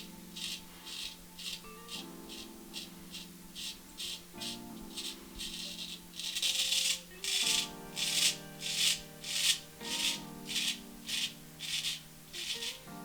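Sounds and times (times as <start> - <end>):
razor scraping stubble: 0.0 - 12.9
background music with held chords: 0.0 - 13.0.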